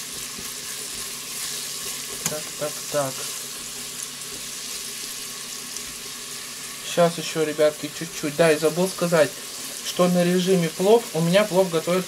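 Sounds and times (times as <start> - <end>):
vegetables sizzling: 0.0 - 12.0.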